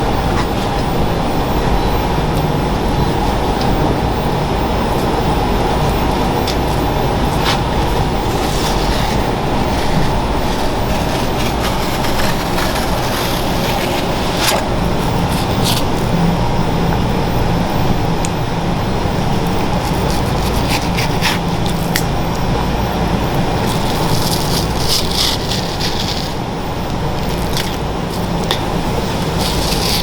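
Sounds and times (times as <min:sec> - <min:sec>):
restaurant kitchen noise: 0:00.0 - 0:30.0.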